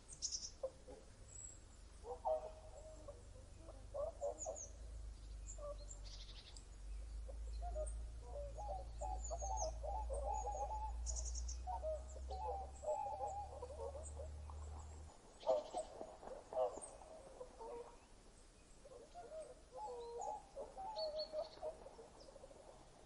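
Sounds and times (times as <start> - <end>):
birds calling: 0.0 - 22.6.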